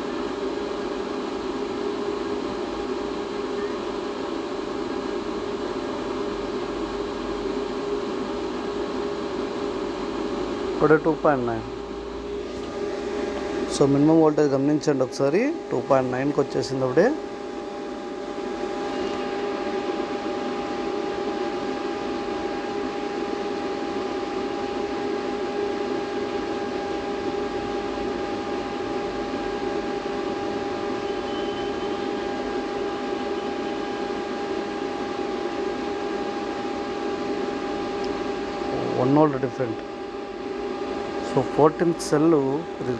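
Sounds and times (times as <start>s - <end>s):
cooling fan running with whine: 0.0s - 42.9s.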